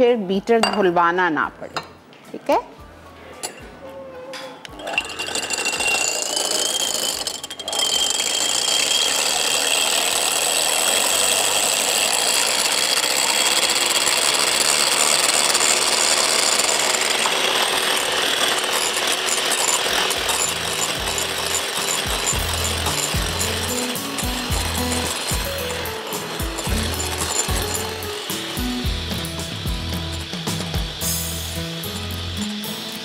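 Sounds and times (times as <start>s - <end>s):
electric mixer whisking: 4.8s - 33.0s.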